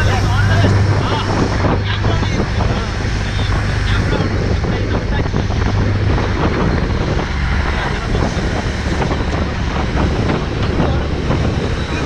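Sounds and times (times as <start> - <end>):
motorboat engine running: 0.0 - 12.0
rush of boat wake: 0.0 - 12.0
wind buffeting microphone: 0.0 - 12.0.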